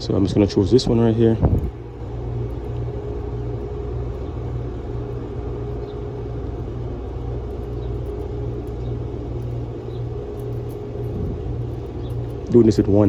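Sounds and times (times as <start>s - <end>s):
low rumble and hum: 0.0s - 13.0s.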